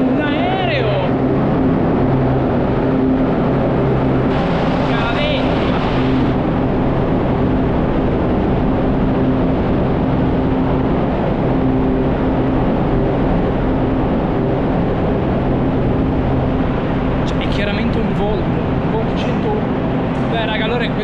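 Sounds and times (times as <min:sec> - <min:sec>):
low hum: 0:00.0 - 0:21.0
tunnel roar: 0:00.0 - 0:21.0.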